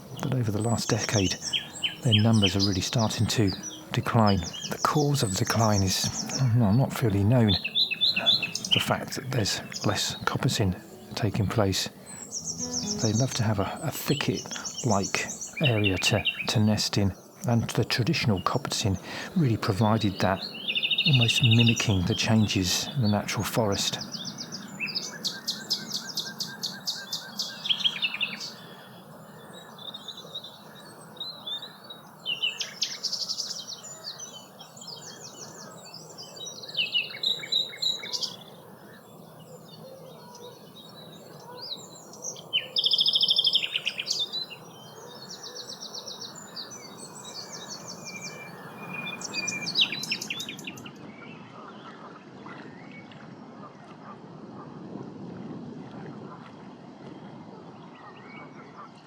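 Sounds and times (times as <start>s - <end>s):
nightingale singing: 0.0s - 51.4s.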